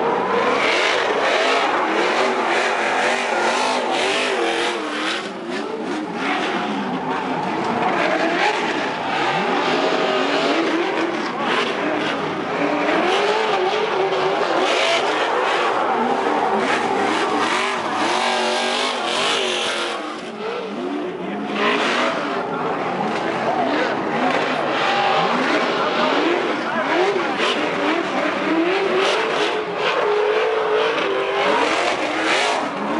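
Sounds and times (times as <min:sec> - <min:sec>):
tire noise: 0:00.0 - 0:32.9
truck engines revving: 0:00.0 - 0:32.9.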